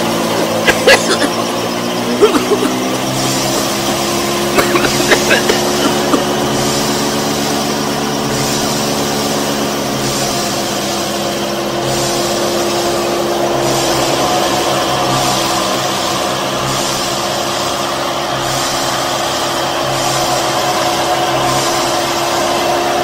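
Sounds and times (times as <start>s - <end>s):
small motor humming: 0.0s - 23.0s.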